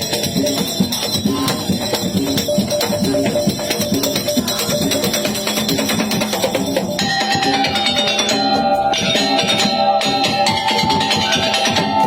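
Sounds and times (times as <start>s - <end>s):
fast dense drumming: 0.0s - 12.0s
jingling percussion: 0.0s - 12.0s.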